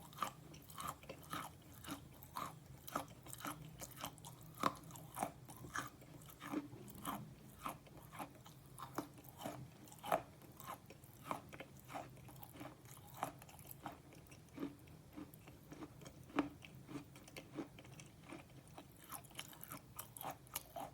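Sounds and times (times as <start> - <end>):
pencil being chewed crunching: 0.0 - 20.9.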